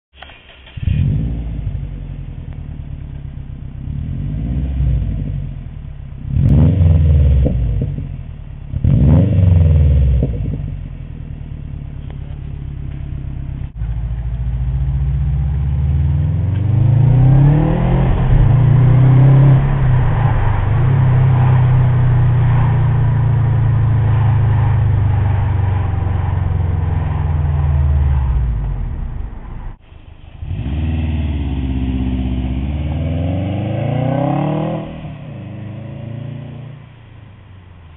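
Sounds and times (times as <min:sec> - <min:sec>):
car accelerating: 0:00.2 - 0:37.9
car engine revving: 0:00.2 - 0:37.9.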